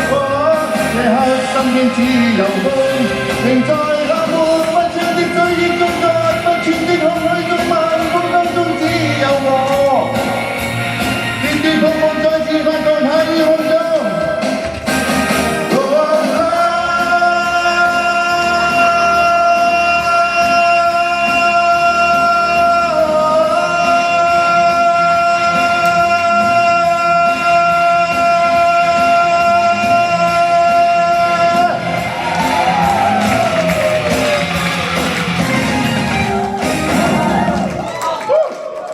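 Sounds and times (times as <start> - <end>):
rock song with full band: 0.0 - 37.9.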